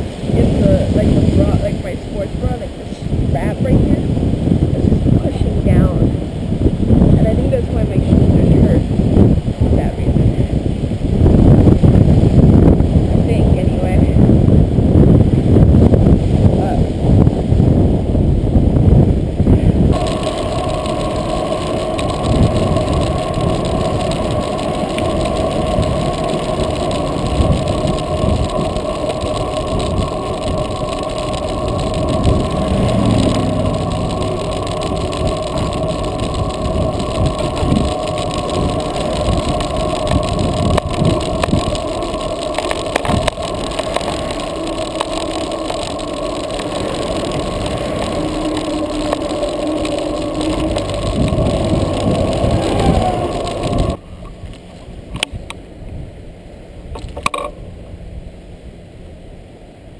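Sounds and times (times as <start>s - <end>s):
wind buffeting microphone: 0.0s - 56.3s
bicycle ride noise: 0.0s - 59.9s.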